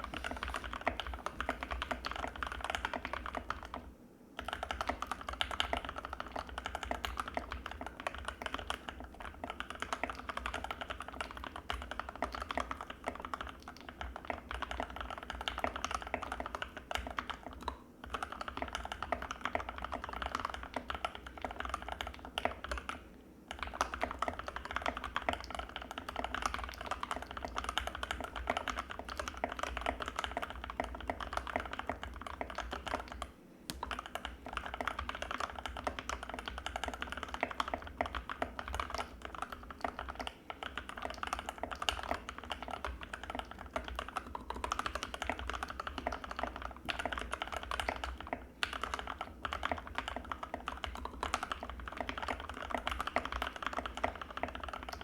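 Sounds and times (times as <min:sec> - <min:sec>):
fast typing on mechanical keyboard: 0:00.0 - 0:55.0.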